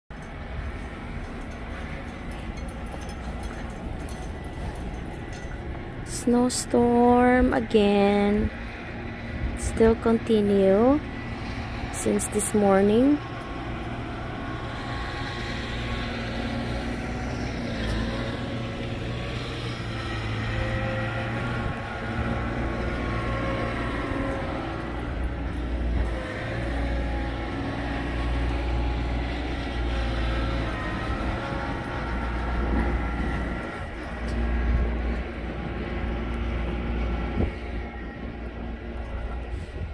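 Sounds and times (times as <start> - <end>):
vehicle engine droning: 0.1 - 39.9
wind buffeting microphone: 0.1 - 39.9.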